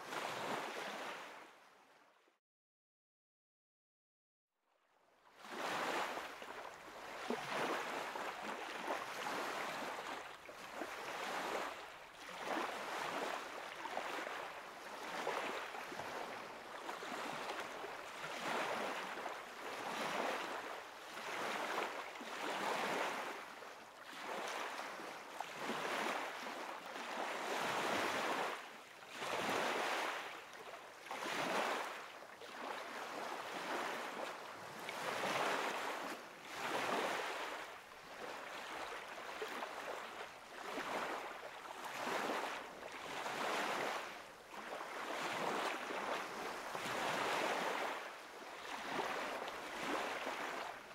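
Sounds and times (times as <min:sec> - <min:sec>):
small waves on shore: 0:00.0 - 0:02.2, 0:04.8 - 0:50.9.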